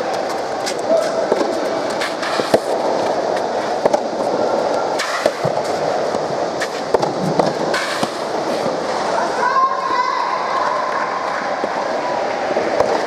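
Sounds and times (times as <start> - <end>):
crowd noise: 0.0 - 13.0.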